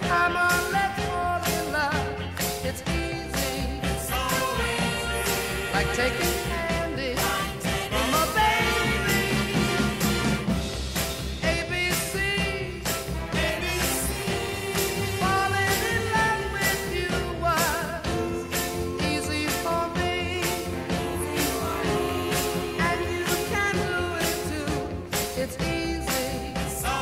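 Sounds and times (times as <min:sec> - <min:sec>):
song with singer and band: 0:00.0 - 0:27.0.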